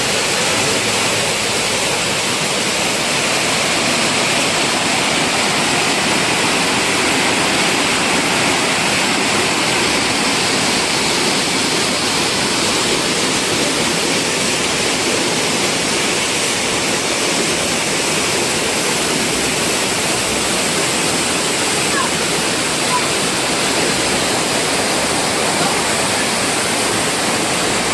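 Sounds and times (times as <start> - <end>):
waterfall roaring: 0.0 - 27.9.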